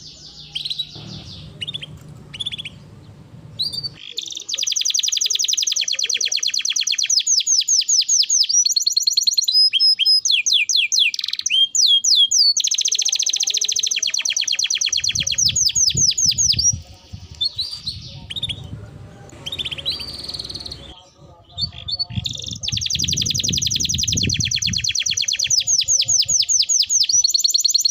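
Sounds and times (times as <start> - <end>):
canary singing in trills: 0.0 - 27.9.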